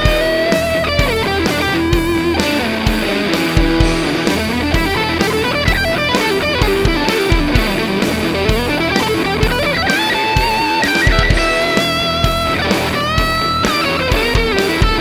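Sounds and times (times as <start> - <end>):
distorted electric guitar lead: 0.0 - 15.0.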